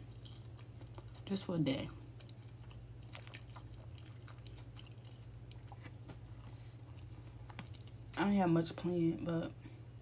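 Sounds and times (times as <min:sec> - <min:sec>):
person chewing: 0:00.0 - 0:08.2.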